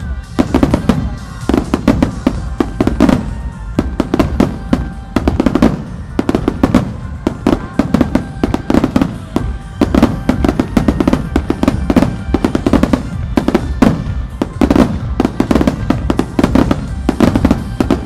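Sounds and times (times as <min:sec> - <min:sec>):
music from loudspeakers: 0:00.0 - 0:18.0.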